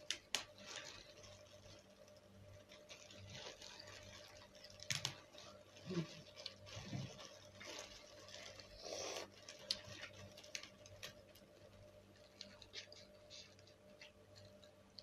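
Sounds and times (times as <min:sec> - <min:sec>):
faint steady hum: 0:00.0 - 0:15.0
plastic gloves crinkling: 0:00.0 - 0:15.0.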